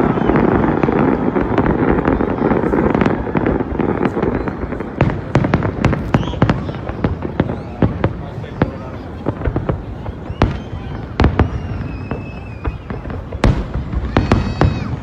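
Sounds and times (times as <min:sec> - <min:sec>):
fireworks bursting: 0:00.0 - 0:15.0
fireworks crackling pops: 0:00.0 - 0:15.0.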